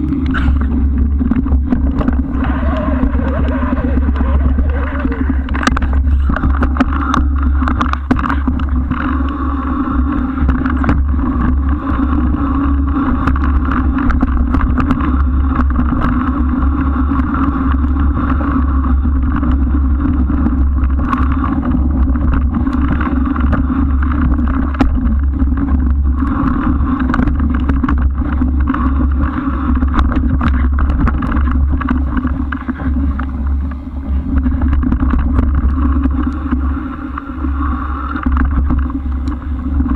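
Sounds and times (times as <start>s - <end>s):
rushing wind: 0.0s - 39.9s
small clicks and rattles: 0.0s - 39.9s.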